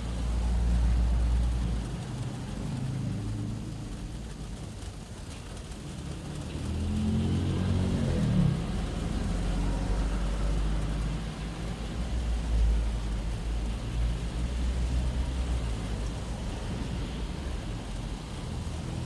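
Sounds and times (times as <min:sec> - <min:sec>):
car engine rumble: 0:00.0 - 0:19.0
rain hiss: 0:00.0 - 0:19.0
traffic on wet road: 0:00.0 - 0:19.0.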